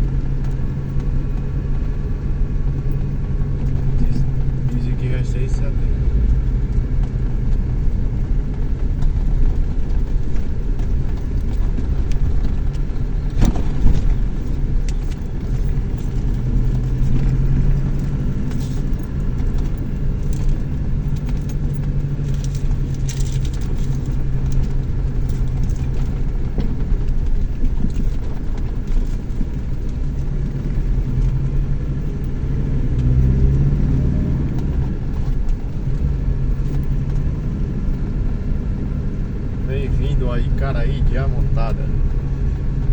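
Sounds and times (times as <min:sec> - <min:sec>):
pickup truck engine and road rumble: 0:00.0 - 0:42.9.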